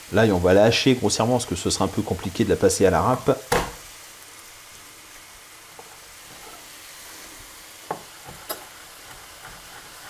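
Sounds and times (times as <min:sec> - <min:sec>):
onion sizzling in frying pan: 0:00.0 - 0:10.0.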